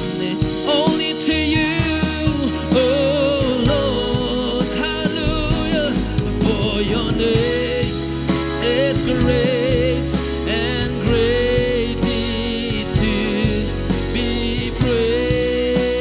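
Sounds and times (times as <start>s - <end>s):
band playing worship music: 0.0s - 16.0s.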